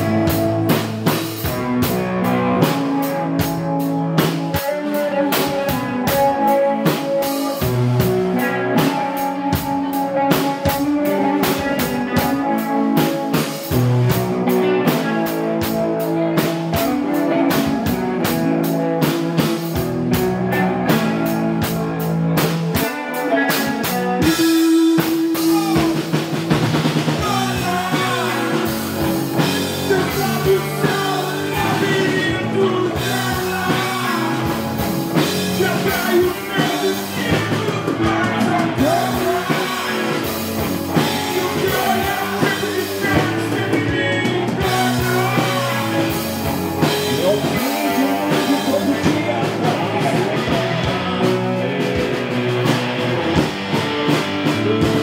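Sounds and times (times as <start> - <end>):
drum kit with cymbals and snare: 0.0 - 55.0
electric guitar: 0.0 - 55.0.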